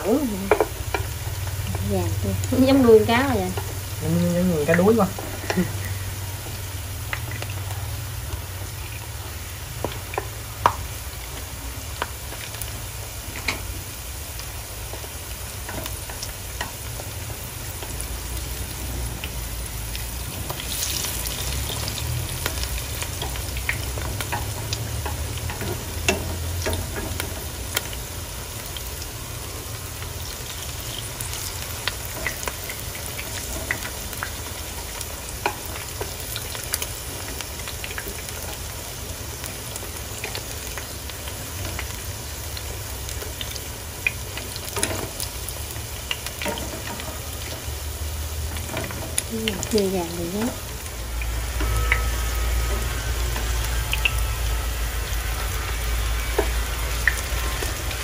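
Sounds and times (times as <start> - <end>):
fritters sizzling in hot oil: 0.0 - 58.0.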